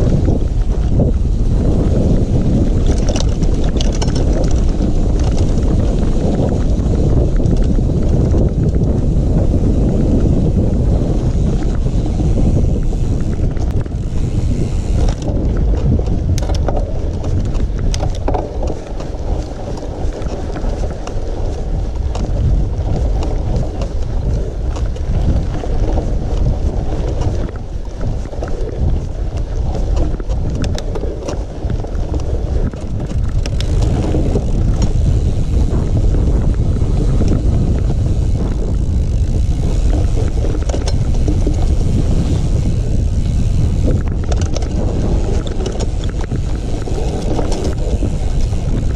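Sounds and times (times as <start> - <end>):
bike rattling clicks and knocks: 0.0 - 48.9
bike tyre noise off-road: 0.0 - 48.9
wind buffeting microphone: 0.0 - 48.9.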